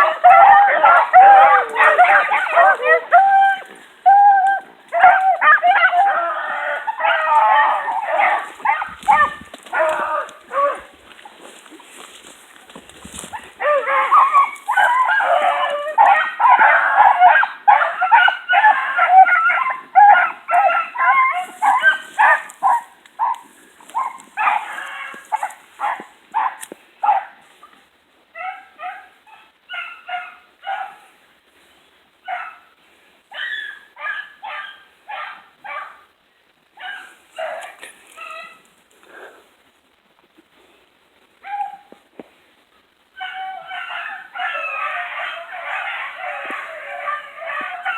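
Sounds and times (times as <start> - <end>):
hounds baying and barking: 0.0 - 31.2, 32.2 - 32.7, 33.3 - 36.1, 36.8 - 38.8, 41.4 - 42.0, 43.1 - 47.9.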